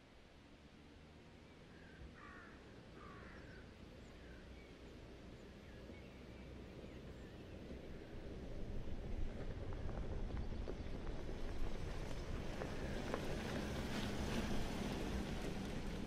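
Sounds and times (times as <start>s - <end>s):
diesel engine rumble: 2.6s - 16.0s.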